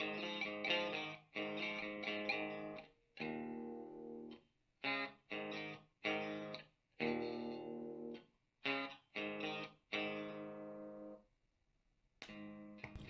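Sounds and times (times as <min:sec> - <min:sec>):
electric guitar chords: 0:00.0 - 0:11.2.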